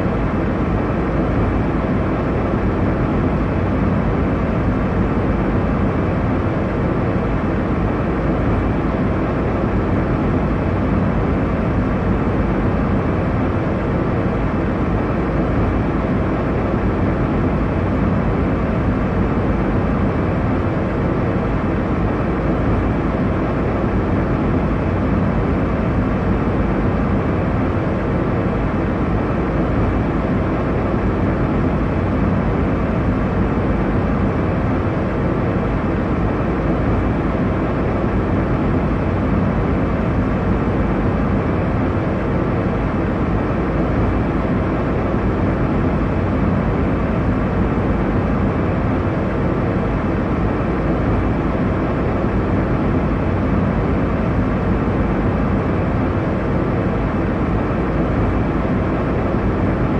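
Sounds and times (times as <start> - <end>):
airliner cabin engine rush: 0.0 - 59.9.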